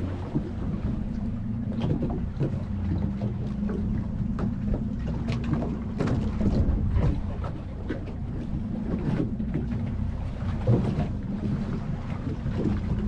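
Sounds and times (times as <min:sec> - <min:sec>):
outboard motors humming: 0:00.0 - 0:13.0
wind noise on microphone: 0:00.0 - 0:13.0.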